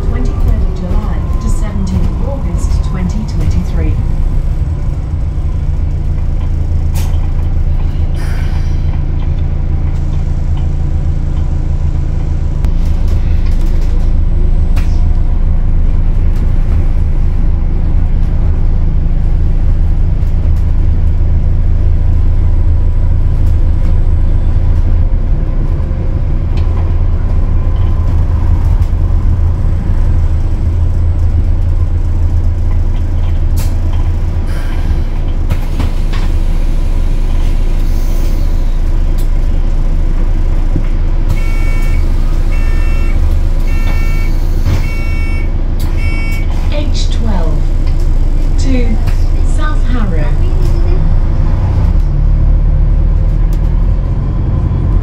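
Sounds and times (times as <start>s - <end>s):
bus drivetrain drone: 0.0s - 55.0s.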